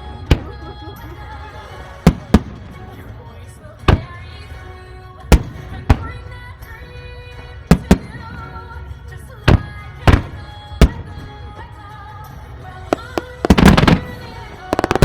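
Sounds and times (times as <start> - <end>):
background music with held notes: 0.0 - 15.0
fireworks bursting: 0.0 - 15.0.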